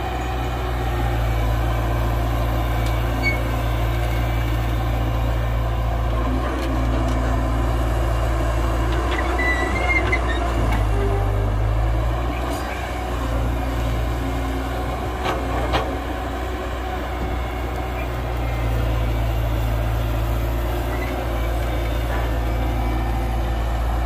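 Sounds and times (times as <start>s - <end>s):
heavy diesel engines running: 0.0s - 24.0s.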